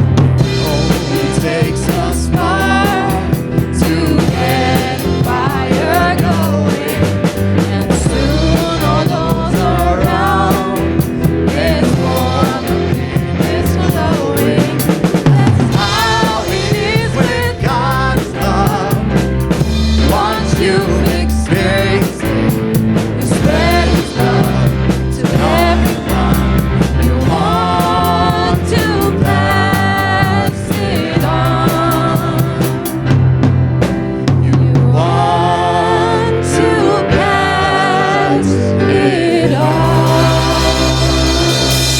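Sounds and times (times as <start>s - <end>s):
bass: 0.0s - 41.9s
drum kit beat: 0.0s - 41.9s.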